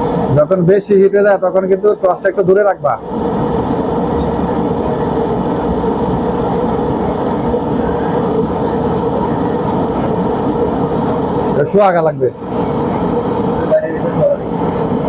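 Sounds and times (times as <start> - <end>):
faint steady hum: 0.0 - 15.0
gas torch flame rushing: 0.0 - 15.0.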